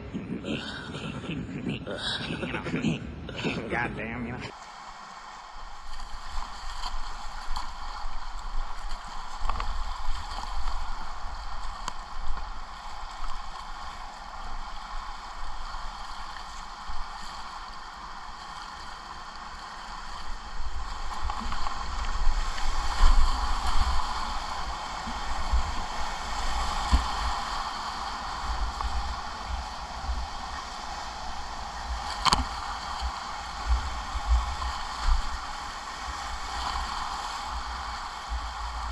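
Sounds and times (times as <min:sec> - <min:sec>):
whitewater rushing and splashing: 0:03.5 - 0:38.9.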